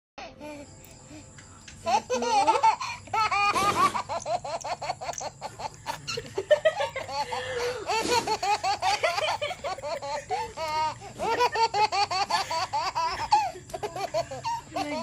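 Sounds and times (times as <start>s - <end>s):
high-pitched laughter: 1.9s - 15.0s.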